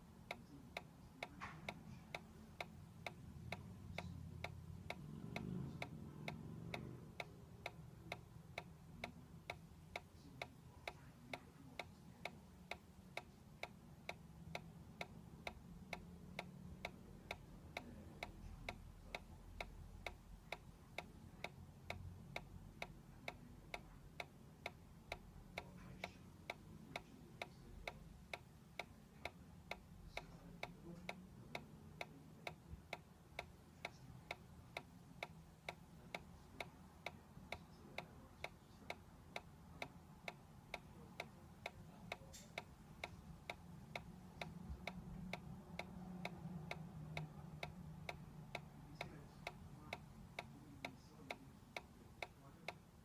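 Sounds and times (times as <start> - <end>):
toy mechanism ticking: 0.0 - 53.0.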